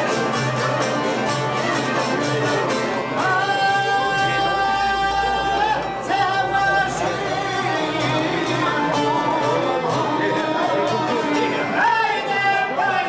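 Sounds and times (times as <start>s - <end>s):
person singing long notes: 0.0s - 13.0s
rhythmic instrumental accompaniment: 0.0s - 13.0s.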